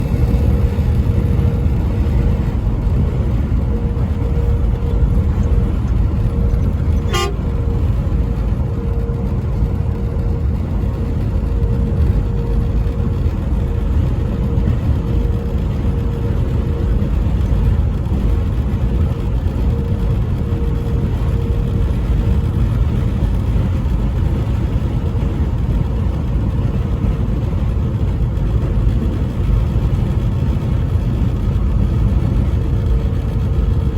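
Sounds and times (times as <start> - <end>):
vehicle road rumble: 0.0 - 33.9.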